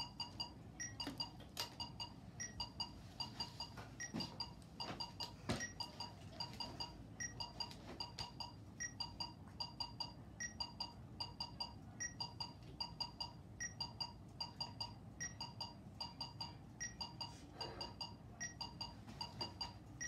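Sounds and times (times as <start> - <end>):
accent beep: 0.0 - 6.0, 7.2 - 19.7
electronic metronome beeping: 0.0 - 20.0.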